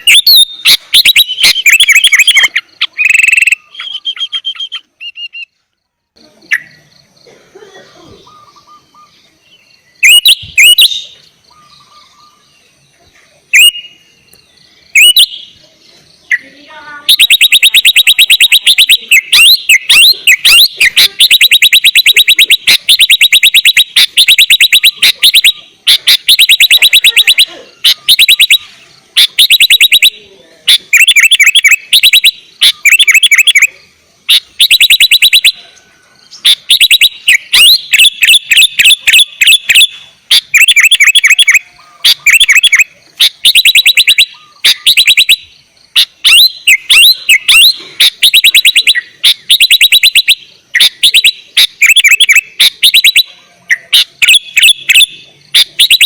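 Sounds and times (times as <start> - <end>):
bird singing and chattering: 0.0 - 56.0.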